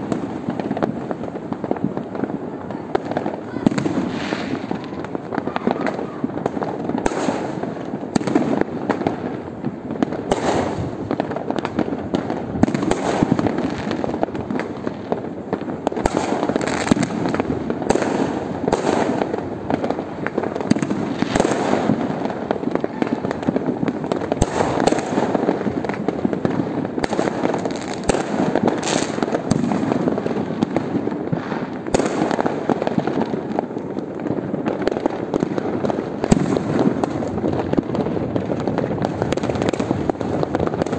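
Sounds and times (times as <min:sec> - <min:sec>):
fireworks crackling and popping: 0:00.0 - 0:40.9
loud single firework bangs: 0:00.0 - 0:40.9.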